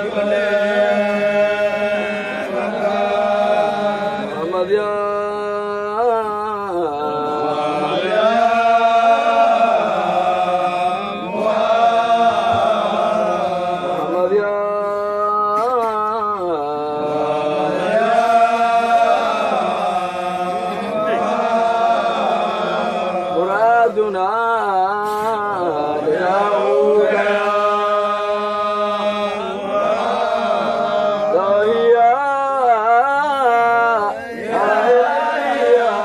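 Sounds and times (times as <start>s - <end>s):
voice chanting ornamented phrases: 0.0s - 36.0s.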